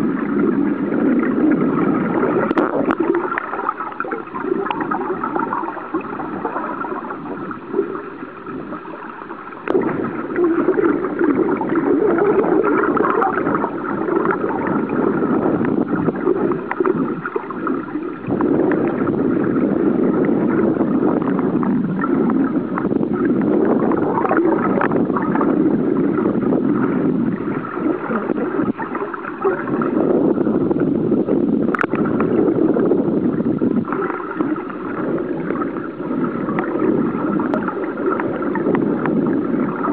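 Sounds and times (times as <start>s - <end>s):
faint steady hum: 0.0s - 39.9s
underwater rush and gurgle: 0.0s - 39.9s.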